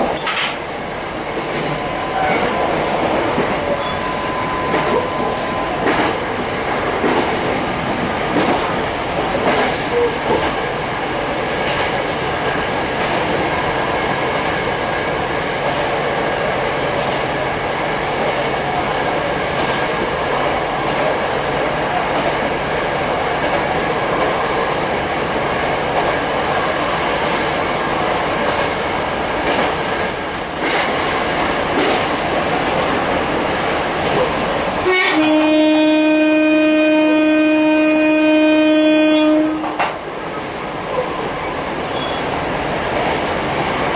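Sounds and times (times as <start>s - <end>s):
wheels rumbling on rail: 0.0s - 43.9s.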